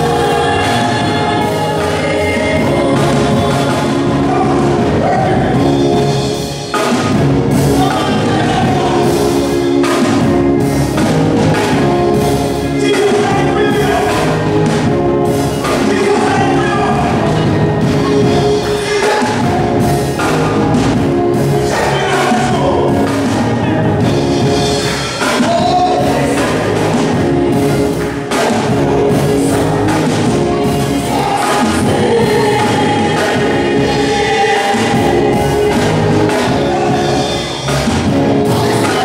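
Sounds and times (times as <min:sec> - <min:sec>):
man singing lead: 0:00.0 - 0:10.2, 0:12.6 - 0:20.8, 0:21.5 - 0:24.6, 0:25.2 - 0:39.0
backing singers: 0:00.0 - 0:39.0
gospel band with drums: 0:00.0 - 0:39.0.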